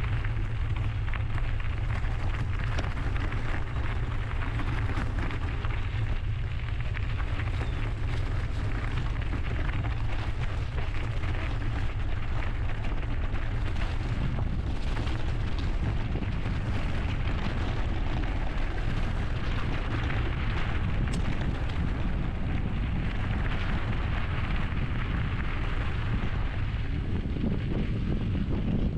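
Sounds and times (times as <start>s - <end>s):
tyres crackling on trail: 0.0s - 28.9s
wind buffeting microphone: 0.0s - 28.9s.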